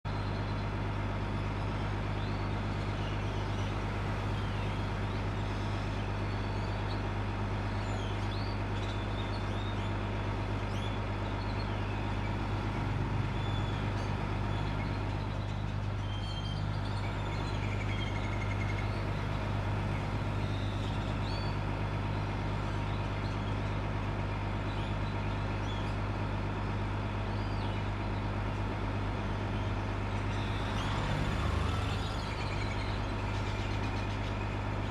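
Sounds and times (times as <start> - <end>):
small birds chirping: 0.1 - 26.1, 29.4 - 34.9
bus engine droning: 0.1 - 34.9
street traffic: 0.1 - 34.9.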